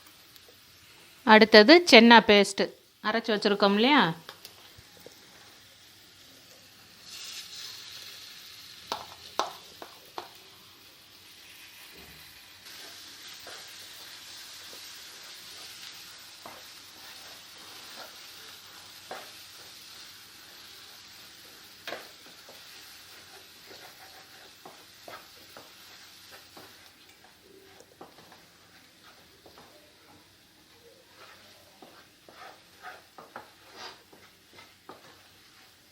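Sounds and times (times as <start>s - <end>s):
paste sizzling in a pan: 0.0s - 35.9s.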